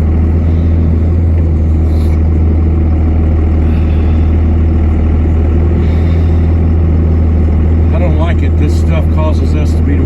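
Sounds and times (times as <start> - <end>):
truck engine low hum: 0.0 - 10.0.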